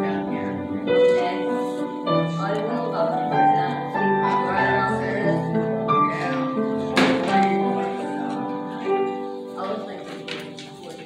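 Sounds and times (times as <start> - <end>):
instrumental church music: 0.0 - 11.0.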